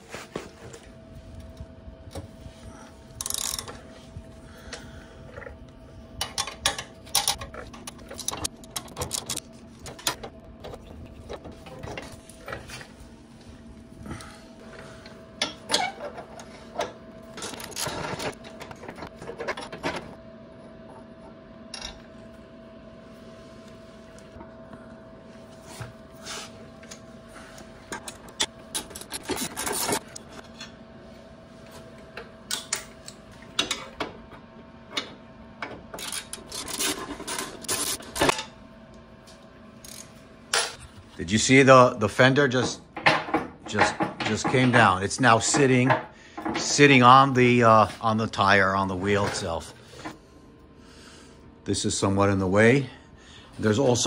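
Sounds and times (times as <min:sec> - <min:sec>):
steady faint hum: 0:00.0 - 0:54.0.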